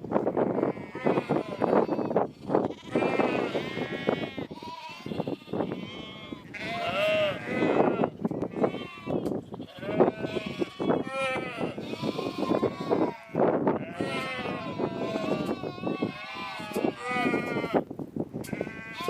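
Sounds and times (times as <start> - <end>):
sheep bleating: 0.6 - 17.8, 18.5 - 19.0.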